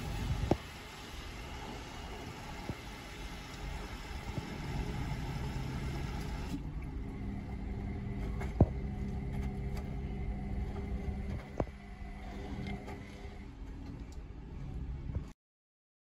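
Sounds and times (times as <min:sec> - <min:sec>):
washing machine drum rumbling: 0:00.0 - 0:13.4.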